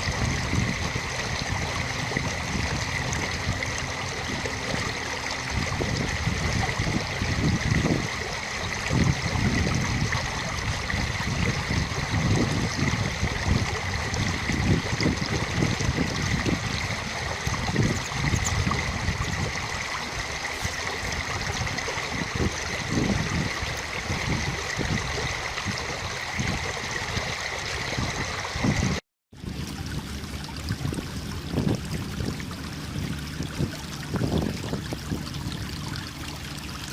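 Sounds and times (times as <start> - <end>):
low buffeting rumbles: 0.0 - 36.9
running water: 0.0 - 36.9.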